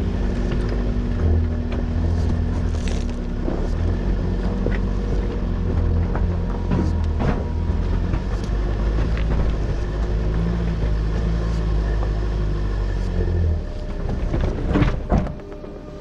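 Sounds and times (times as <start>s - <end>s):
stones clicking under tyres: 0.0s - 15.7s
diesel engine rumbling at low revs: 0.0s - 16.0s.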